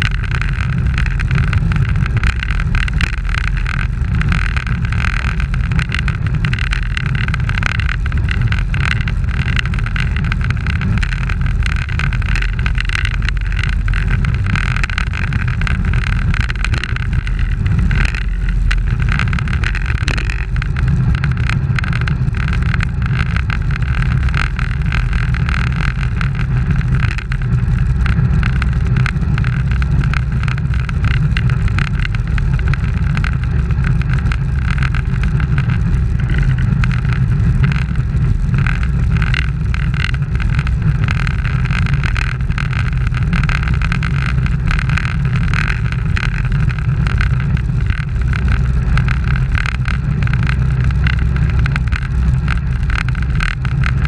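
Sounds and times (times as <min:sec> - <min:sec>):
bicycle road noise on asphalt: 0:00.0 - 0:54.0
wind rush on microphone: 0:00.0 - 0:54.0.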